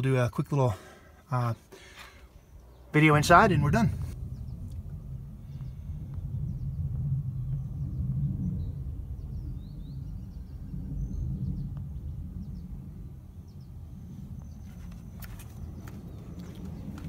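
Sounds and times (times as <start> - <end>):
steady low rumble: 2.1 - 17.0.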